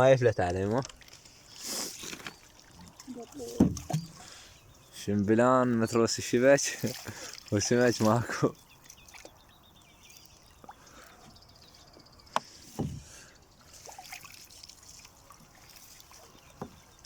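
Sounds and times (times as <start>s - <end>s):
water trickling and dripping: 0.1s - 17.0s.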